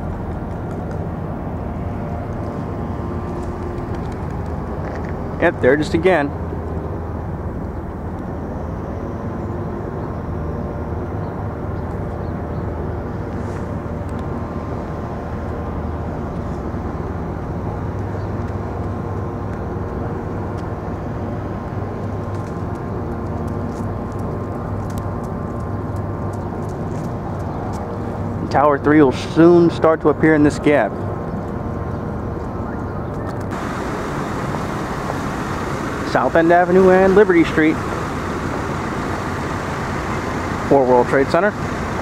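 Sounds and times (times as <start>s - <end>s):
mechanical hum: 0.0s - 29.3s, 30.9s - 42.0s
low engine drone: 0.0s - 42.0s.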